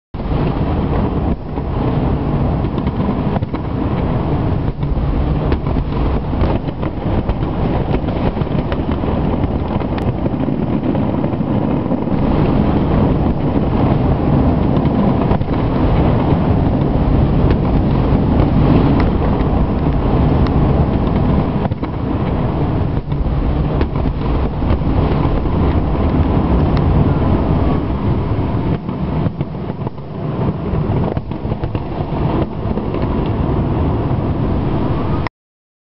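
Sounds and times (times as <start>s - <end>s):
sharp firework cracks: 0.2s - 35.1s
rumble of firework booms: 0.2s - 35.2s.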